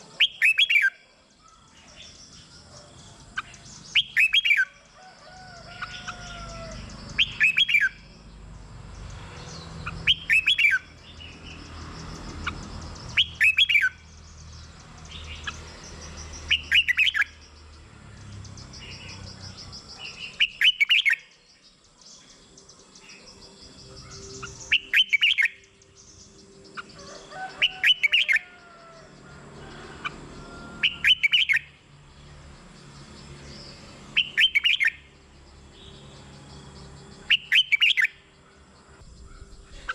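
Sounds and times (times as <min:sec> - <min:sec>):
bird singing warbling phrases: 0:00.0 - 0:04.9, 0:05.5 - 0:29.2, 0:30.0 - 0:32.0, 0:32.8 - 0:39.9
soft bird calls: 0:00.0 - 0:08.2, 0:09.0 - 0:31.8, 0:33.2 - 0:39.9.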